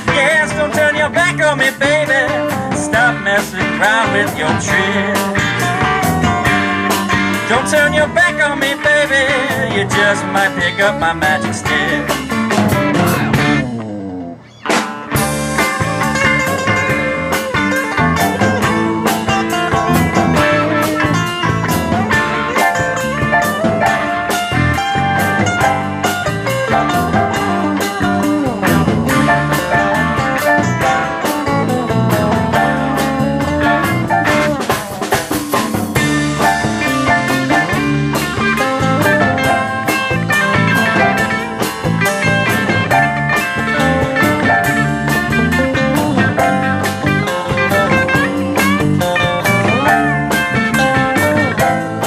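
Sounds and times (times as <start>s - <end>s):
blues-rock band playing: 0.0s - 52.0s
drum kit beat: 0.0s - 52.0s
electric guitar bending notes: 0.0s - 52.0s.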